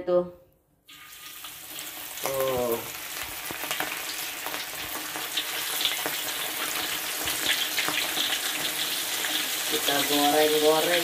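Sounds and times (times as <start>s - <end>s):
fish frying in hot oil: 0.9s - 11.0s.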